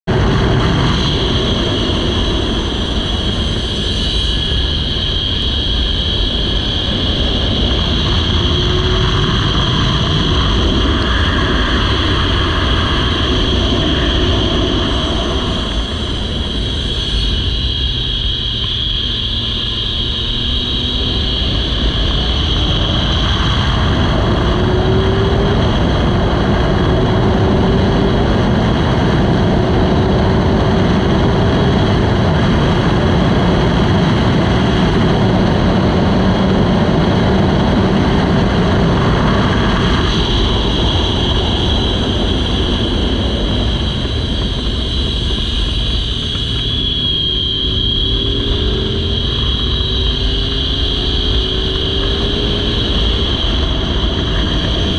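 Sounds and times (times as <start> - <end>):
motorcycle engine at high speed: 0.0 - 54.9
wind rush: 0.0 - 54.9.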